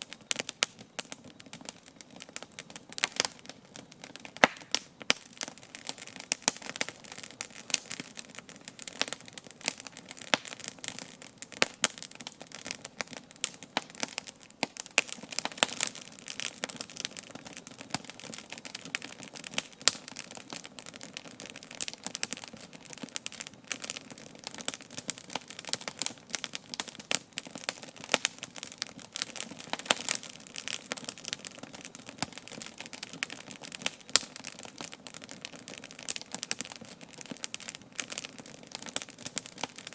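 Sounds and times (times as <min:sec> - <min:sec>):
campfire crackling and snapping: 0:00.0 - 0:39.9.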